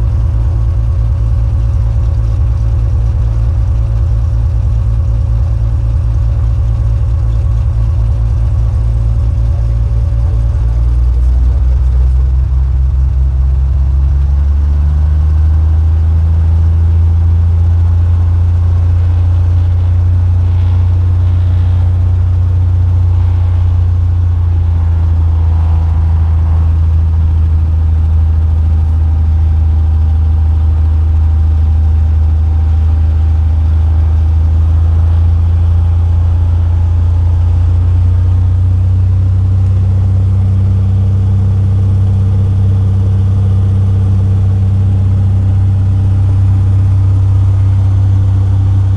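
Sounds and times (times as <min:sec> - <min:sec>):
aircraft piston engine running: 0:00.0 - 0:48.9.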